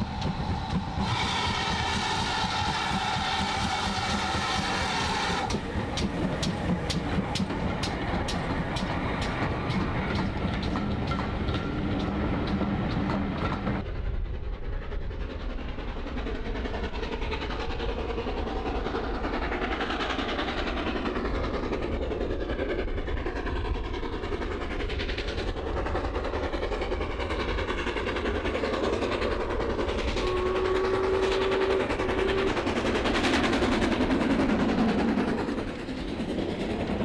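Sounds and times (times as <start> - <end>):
steam locomotive hauling train: 0.0 - 37.0.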